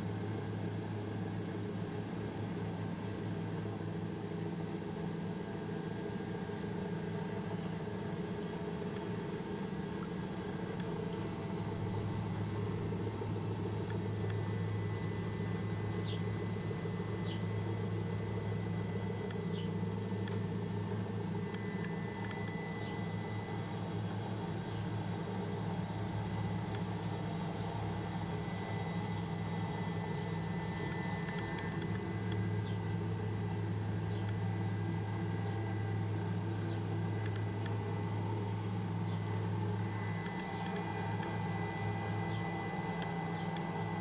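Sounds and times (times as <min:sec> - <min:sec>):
helicopter drone from cabin: 0:00.0 - 0:44.0.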